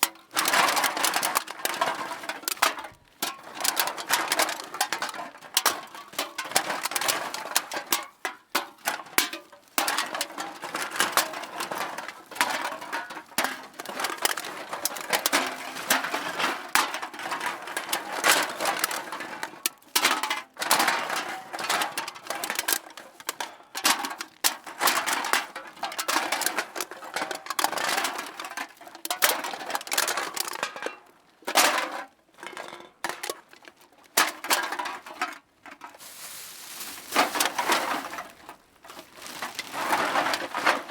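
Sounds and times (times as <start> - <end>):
cans clattering into a bag: 0.0 - 40.9.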